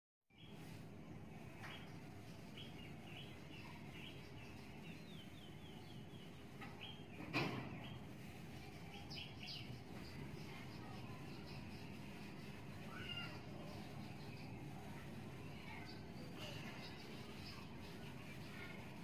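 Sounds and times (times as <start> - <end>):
low background noise: 0.3 - 19.0
small birds chirping: 0.3 - 19.0.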